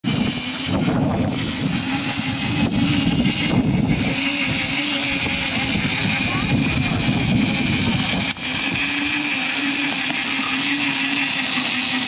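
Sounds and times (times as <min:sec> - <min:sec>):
toy car electric motors droning: 0:00.0 - 0:12.0.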